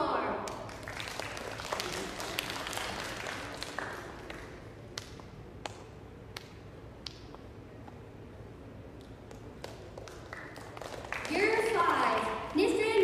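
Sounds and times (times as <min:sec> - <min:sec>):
hand clapping: 0:00.5 - 0:07.5, 0:09.0 - 0:12.6.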